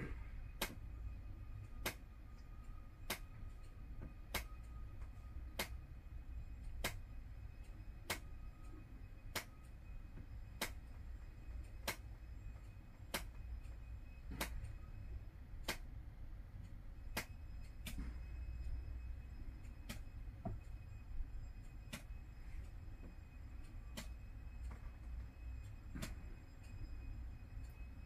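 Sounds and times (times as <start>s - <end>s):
low steady hum: 0.0s - 28.0s
sharp ticking clicks: 0.4s - 28.0s.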